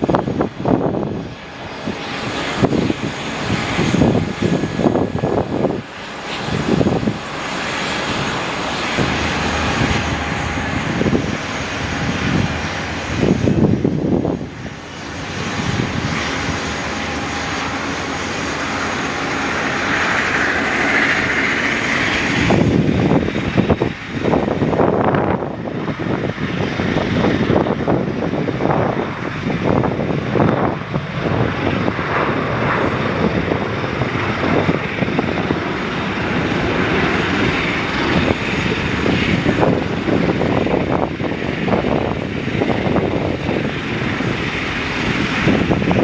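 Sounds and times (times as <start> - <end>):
airliner engines roaring: 0.0 - 46.0
wind on microphone: 0.0 - 46.0.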